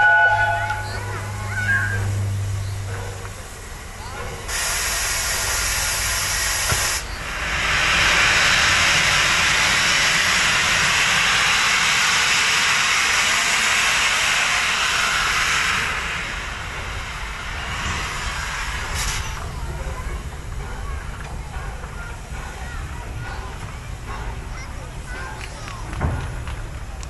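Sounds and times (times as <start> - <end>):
steam locomotive loud steam hiss: 0.0 - 27.0.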